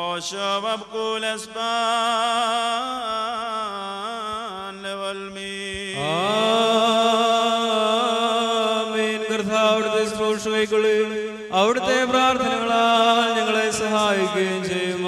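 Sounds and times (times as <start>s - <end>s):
liturgical chant with held notes: 0.0s - 15.0s.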